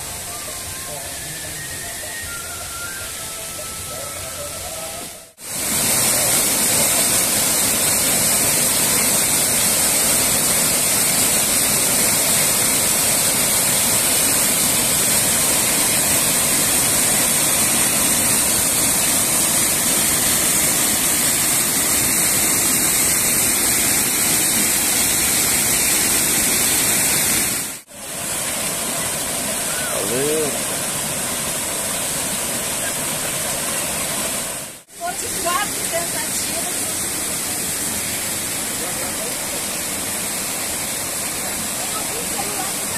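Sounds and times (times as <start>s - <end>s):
waterfall rushing over boulders: 0.0s - 42.9s.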